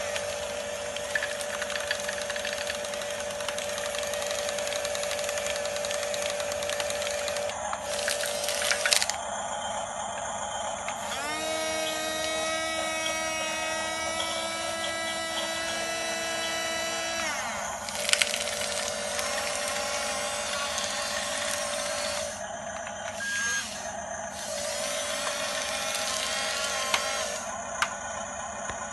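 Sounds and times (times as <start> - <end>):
small electric motors whining: 0.0 - 28.9.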